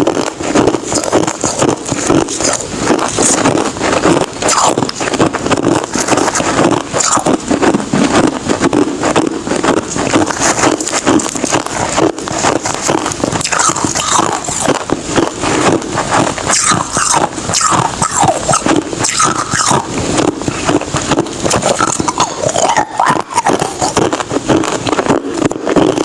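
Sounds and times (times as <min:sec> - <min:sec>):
chewing hard ice crunching: 0:00.0 - 0:26.0.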